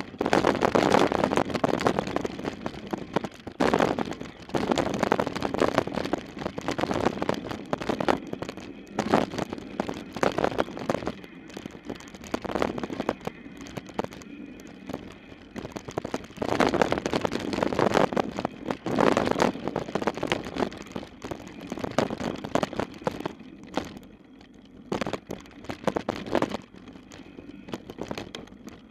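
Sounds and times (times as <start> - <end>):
bike frame and chain rattling: 0.0 - 28.9
bike tyres rumbling over dirt: 0.0 - 28.9.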